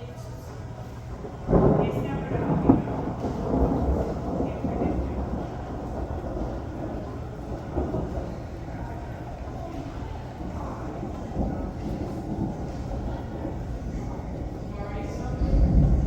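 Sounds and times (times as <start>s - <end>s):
rolling thunder rumble: 0.0s - 16.0s
thunder crash: 1.0s - 16.0s
sharp thunder crack: 1.2s - 16.0s.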